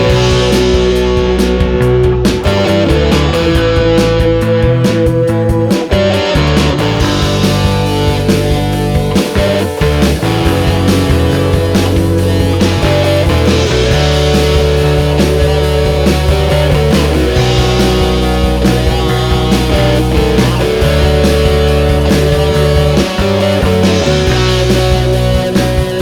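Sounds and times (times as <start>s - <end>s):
rock music with guitar: 0.0s - 26.0s.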